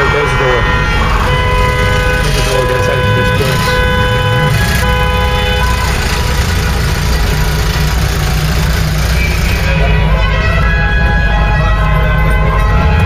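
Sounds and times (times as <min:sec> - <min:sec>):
horn-like tone: 0:00.0 - 0:13.0
vehicle engine rumbling: 0:00.0 - 0:13.0.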